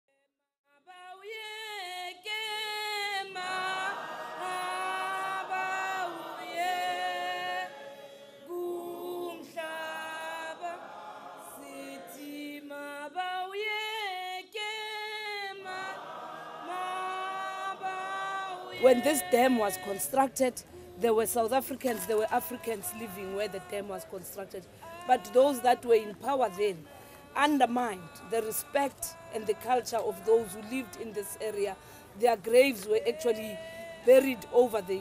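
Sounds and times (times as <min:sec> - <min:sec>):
group singing a cappella: 0:00.9 - 0:35.0.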